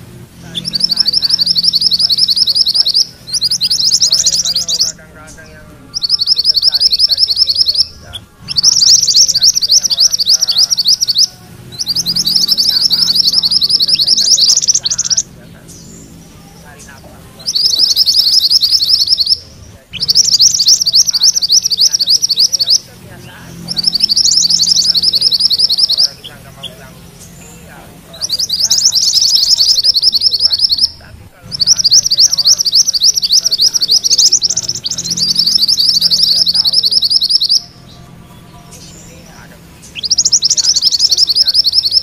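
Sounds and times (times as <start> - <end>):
songbird high chirps: 0.0 - 42.0.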